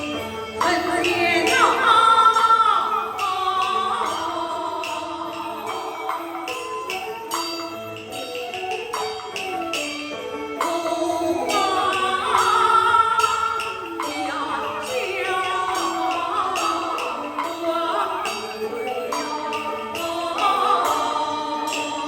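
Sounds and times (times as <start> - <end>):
person singing wavering melody: 0.0 - 22.0
sharp percussion strikes: 0.0 - 22.0
sustained pitched accompaniment: 0.0 - 22.0.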